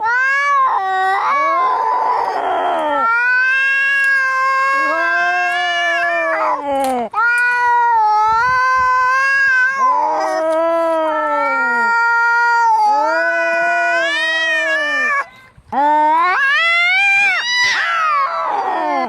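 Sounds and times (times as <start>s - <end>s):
cats yowling in a fight: 0.0s - 19.0s.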